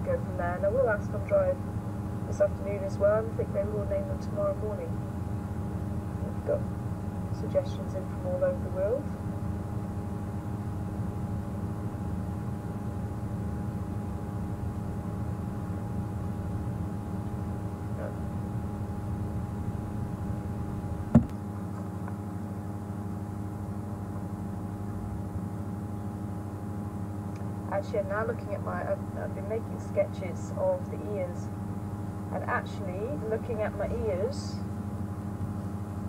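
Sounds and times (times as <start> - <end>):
faint steady tones: 0.0 - 36.0
steady low hum: 0.0 - 36.0.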